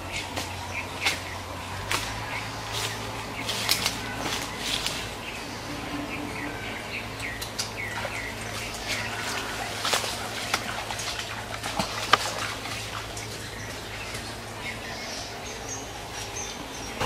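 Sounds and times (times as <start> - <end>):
footsteps wading in water: 0.0 - 6.4, 7.0 - 16.8
birds chirping: 0.0 - 17.0
rustling undergrowth: 0.0 - 17.0.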